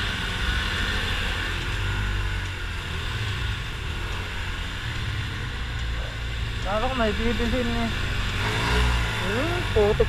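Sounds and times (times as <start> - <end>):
road and wind noise: 0.0 - 10.0
scooter engine running: 0.0 - 10.0.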